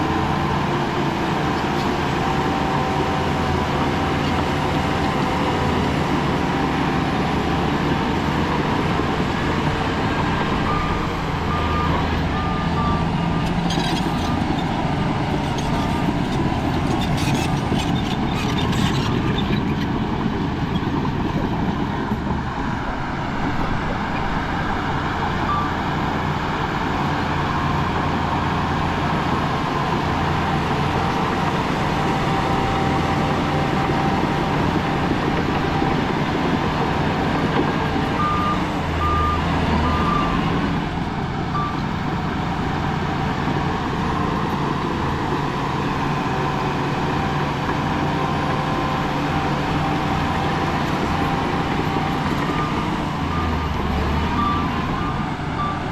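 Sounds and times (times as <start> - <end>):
diesel machinery running: 0.0 - 55.9.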